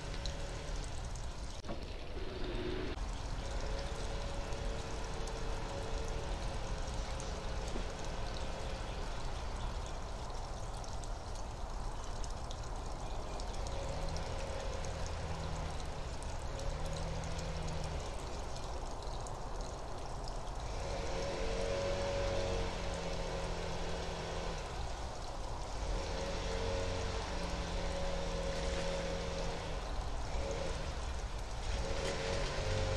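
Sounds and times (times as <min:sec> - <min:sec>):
distant engine drone: 0:00.0 - 0:32.9.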